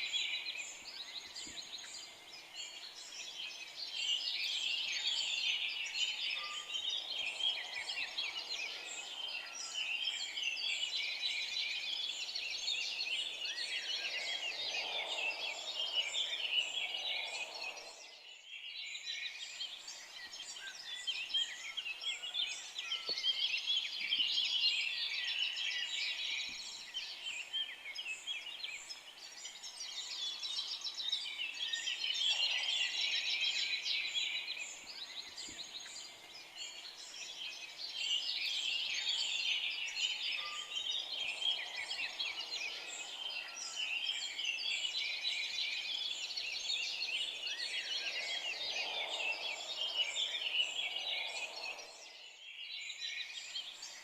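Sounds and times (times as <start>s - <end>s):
forest songbirds singing: 0.0s - 54.0s.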